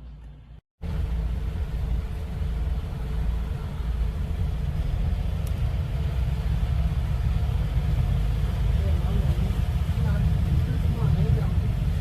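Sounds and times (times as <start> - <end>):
motor vehicle rumbling: 0.0 - 12.0.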